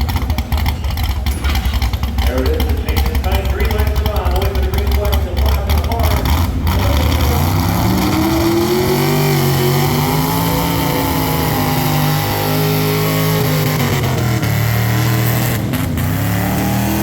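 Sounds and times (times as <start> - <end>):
engine at high revs under load: 0.0 - 17.0.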